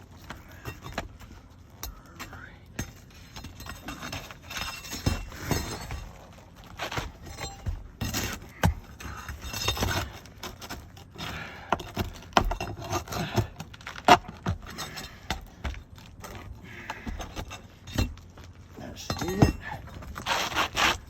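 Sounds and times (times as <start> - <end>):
hand tools scraping shingle: 0.0 - 21.0.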